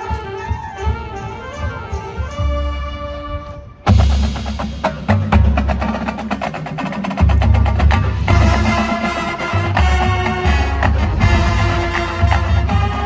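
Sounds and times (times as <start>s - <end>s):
marching band percussion: 0.0s - 13.0s.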